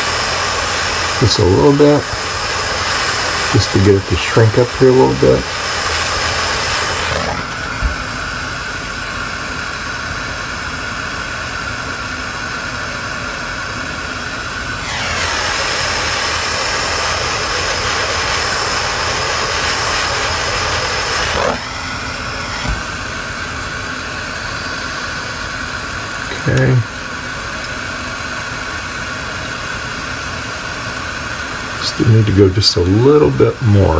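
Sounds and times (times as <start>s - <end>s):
torch flame hissing: 0.0s - 33.9s.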